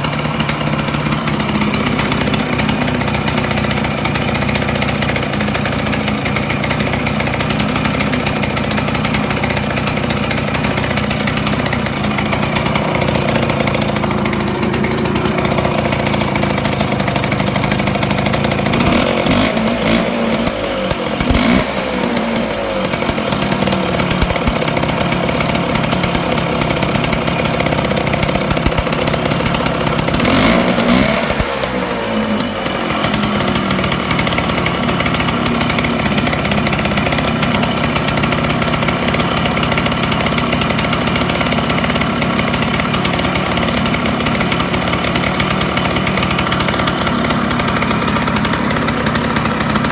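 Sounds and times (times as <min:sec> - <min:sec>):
scooter engine revving: 0:00.0 - 0:49.9.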